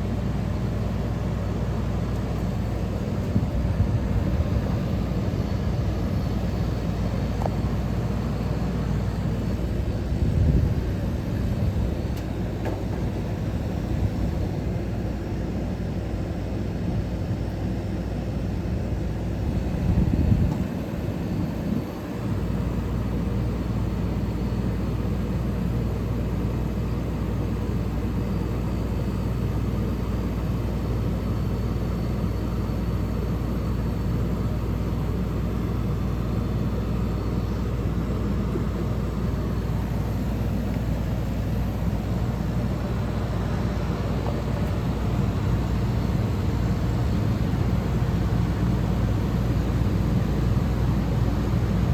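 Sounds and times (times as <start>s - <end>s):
air conditioner fan rush: 0.0s - 51.9s
compressor low hum: 0.0s - 51.9s.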